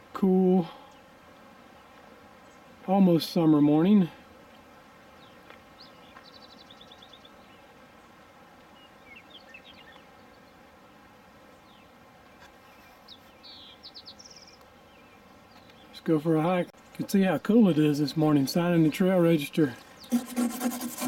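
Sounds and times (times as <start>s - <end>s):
faint buzzing hum: 0.0s - 21.0s
faint birdsong trills and chirps: 0.4s - 3.0s, 5.1s - 10.8s, 11.4s - 20.2s.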